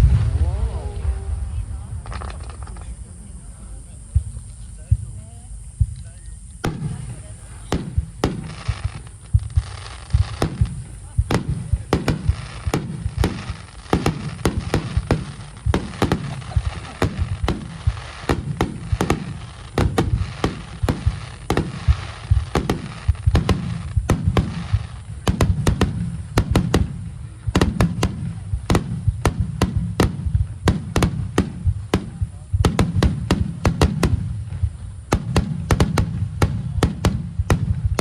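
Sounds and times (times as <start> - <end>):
fireworks booming: 0.0 - 38.0
fireworks crackling: 0.0 - 38.0.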